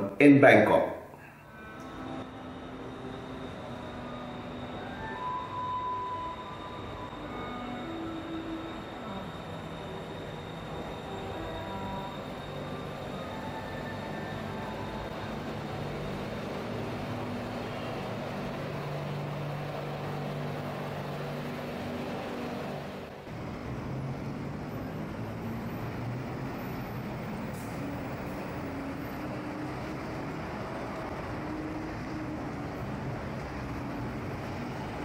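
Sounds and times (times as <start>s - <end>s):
electric train motors humming: 1.1s - 35.0s
road traffic: 1.1s - 35.0s.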